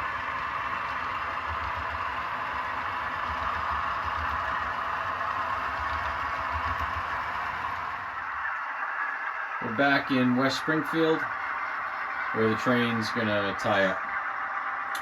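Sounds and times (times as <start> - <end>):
model locomotive diesel engine: 0.0 - 15.0.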